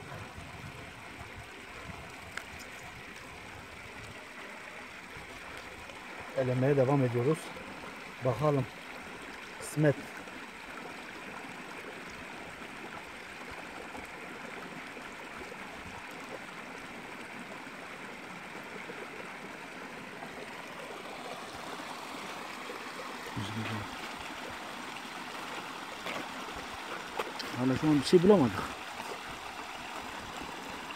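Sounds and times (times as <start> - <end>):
stream water running over stones: 0.0 - 30.9.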